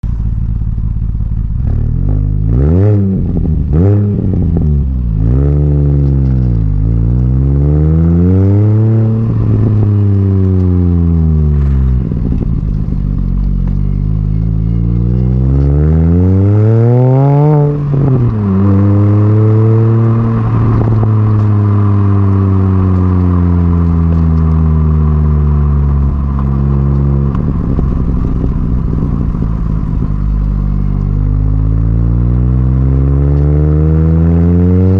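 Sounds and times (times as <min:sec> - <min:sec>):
supercharged car engine revving: 0:01.3 - 0:34.9.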